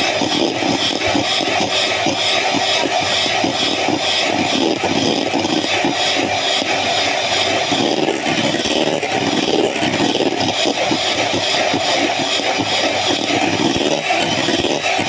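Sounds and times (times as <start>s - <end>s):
electric mixer running: 0.0s - 15.0s.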